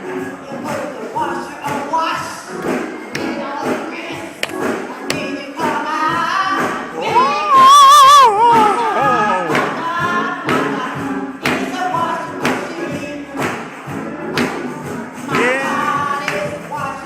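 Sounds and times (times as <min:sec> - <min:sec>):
percussion beats: 0:00.0 - 0:17.0
lead voice singing with vibrato: 0:00.4 - 0:13.7, 0:15.0 - 0:17.0.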